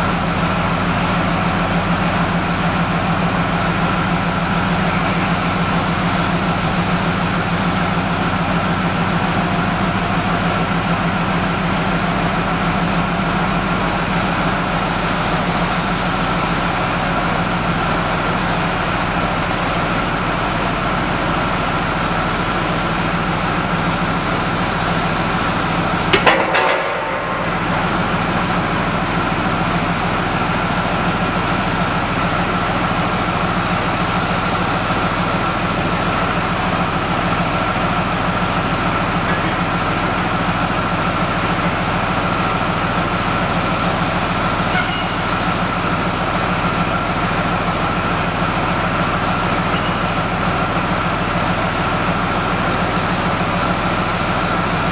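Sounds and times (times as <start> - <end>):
high engine whine: 0.0 - 54.9
tank diesel engine idling: 0.0 - 54.9.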